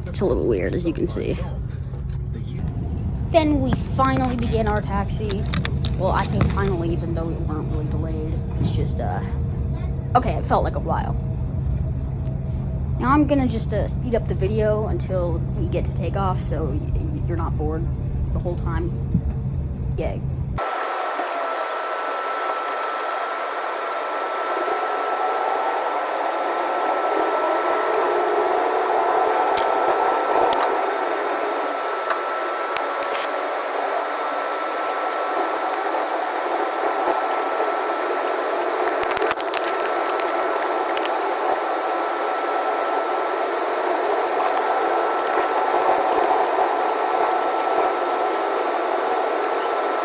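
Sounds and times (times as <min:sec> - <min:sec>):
airplane cabin engine hum: 0:00.0 - 0:50.0
high whine: 0:00.0 - 0:50.0.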